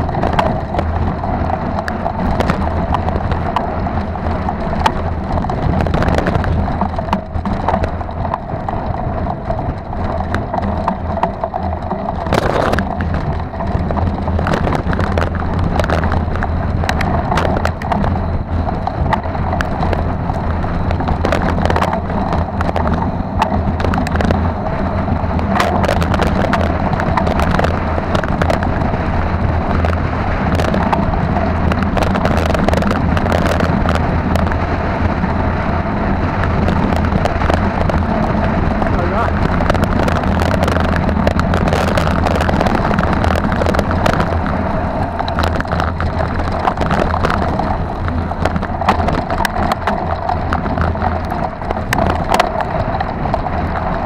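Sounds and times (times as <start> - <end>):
bike knocking and rattling: 0.0 - 54.0
wind and tyres rumbling: 0.0 - 54.0.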